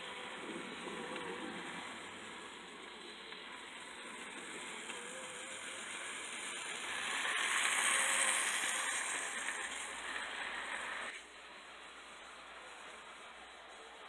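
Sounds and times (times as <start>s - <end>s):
model train whirring on rails: 0.0s - 14.0s.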